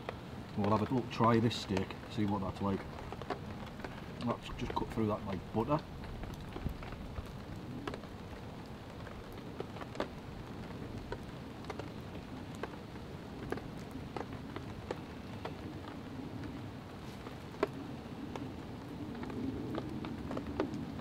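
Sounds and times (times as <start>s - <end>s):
rain hissing on a tarp: 0.0s - 21.0s.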